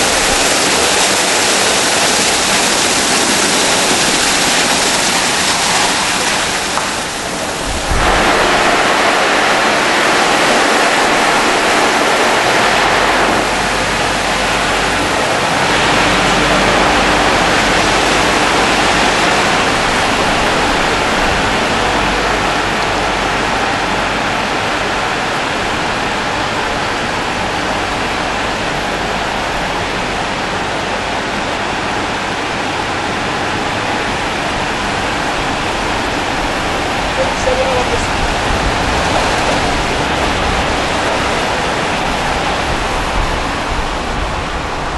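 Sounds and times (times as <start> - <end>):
car wash water spraying: 0.0 - 44.9.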